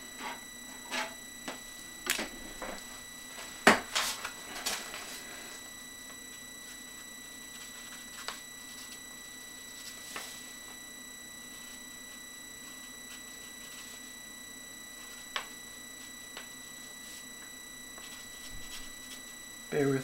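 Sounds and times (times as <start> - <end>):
computer fan whine: 0.0 - 20.0.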